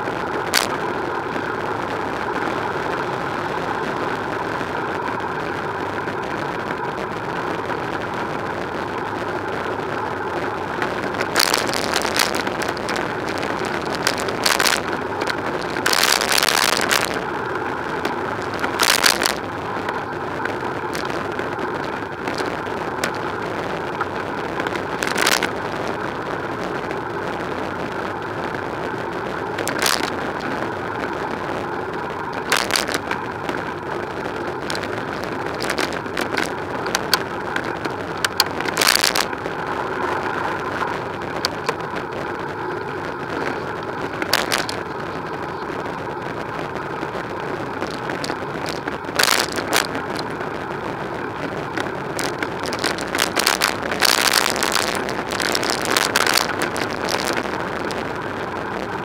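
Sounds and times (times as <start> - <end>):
bicycle rolling on street: 0.0 - 59.0
bursts of noise: 0.0 - 59.0.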